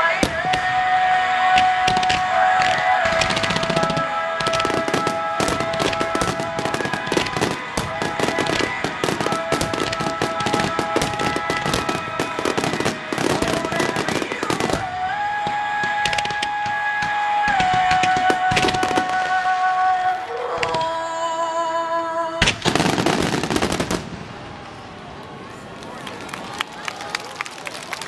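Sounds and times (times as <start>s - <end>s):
fireworks bursting and crackling: 0.0s - 21.3s, 22.4s - 24.9s
music with long held notes: 0.0s - 22.8s.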